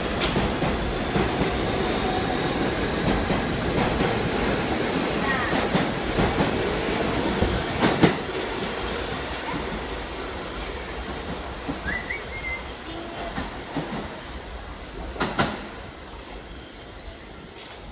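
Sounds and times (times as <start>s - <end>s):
subway train departing: 0.0s - 17.9s.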